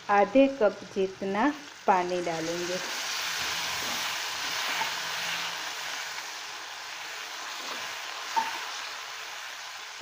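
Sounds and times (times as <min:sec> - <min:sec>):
chillies sizzling in hot oil: 0:00.0 - 0:10.0.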